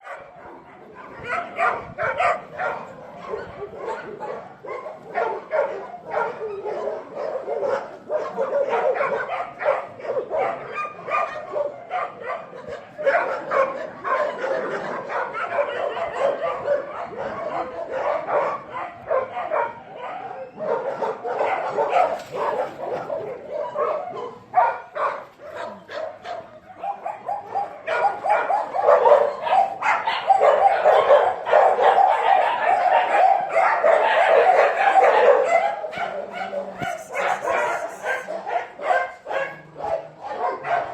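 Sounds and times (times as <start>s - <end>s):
dogs barking and yipping: 0.0s - 40.9s.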